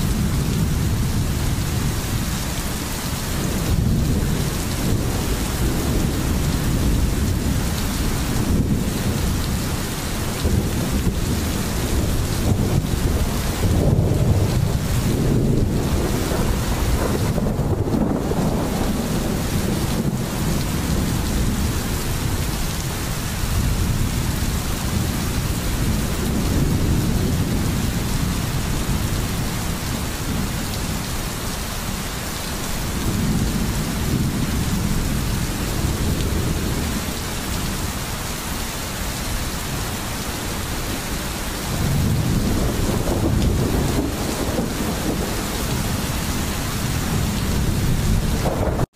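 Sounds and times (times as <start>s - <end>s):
rolling thunder: 0.0s - 31.6s, 32.8s - 38.0s, 41.6s - 48.9s
steady rain: 0.0s - 48.9s.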